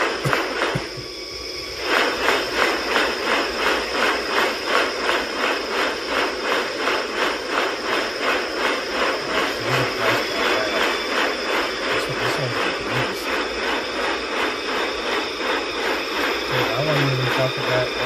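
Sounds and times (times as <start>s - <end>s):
rhythmic pulsing whooshing noise: 0.0s - 18.0s.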